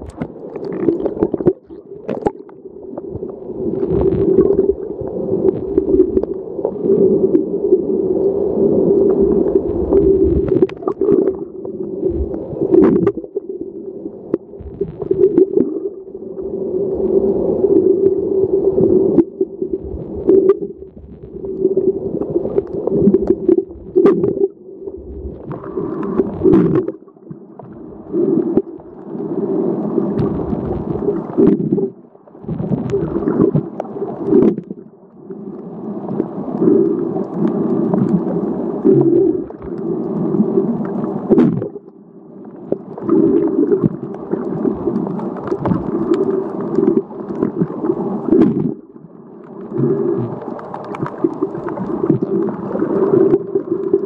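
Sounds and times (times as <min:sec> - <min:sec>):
underwater gurgling rumble: 0:00.0 - 0:54.0.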